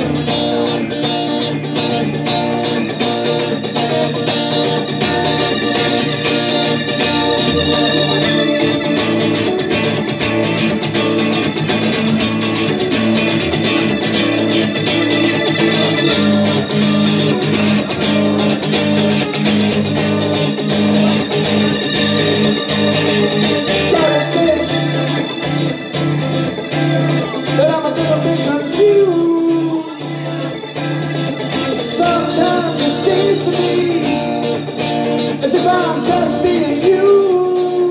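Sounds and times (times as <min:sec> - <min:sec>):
drums: 0:00.0 - 0:37.2
electric guitar: 0:00.0 - 0:37.9
keyboard: 0:00.0 - 0:37.9.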